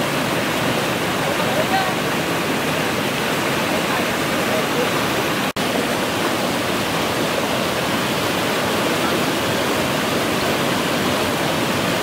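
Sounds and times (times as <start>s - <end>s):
water rushing over dam spillway: 0.0s - 12.0s.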